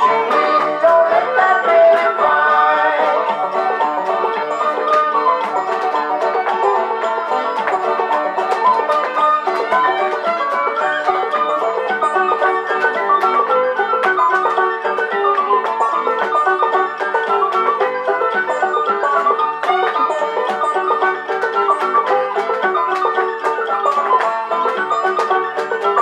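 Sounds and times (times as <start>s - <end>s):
banjo tune: 0.0s - 26.0s.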